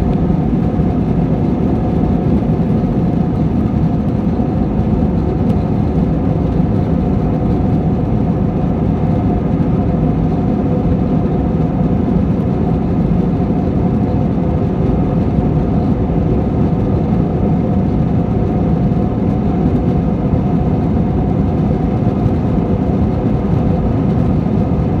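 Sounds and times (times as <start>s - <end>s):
jet engines roaring on takeoff: 0.0s - 25.0s.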